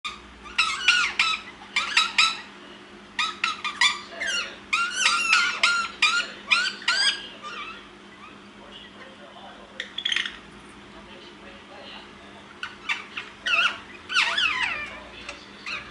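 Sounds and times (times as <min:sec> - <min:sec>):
parakeets chattering: 0:00.0 - 0:15.9.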